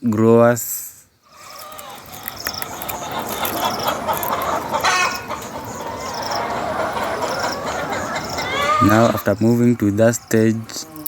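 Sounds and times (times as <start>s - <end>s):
flock of chickens clucking: 1.2s - 11.0s.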